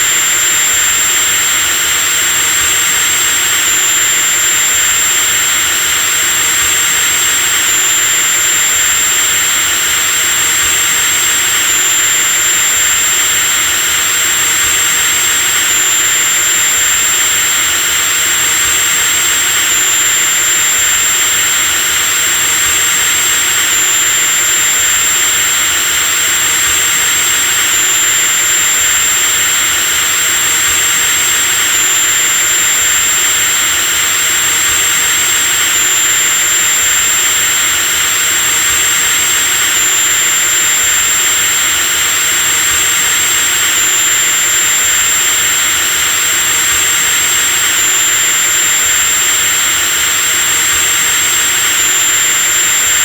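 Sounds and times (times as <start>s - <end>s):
electric drill whining: 0.0s - 53.0s.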